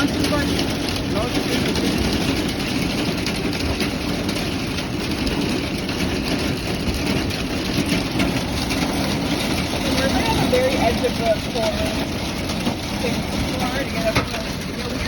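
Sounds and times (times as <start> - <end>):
hail and rain on car roof: 0.0 - 15.0.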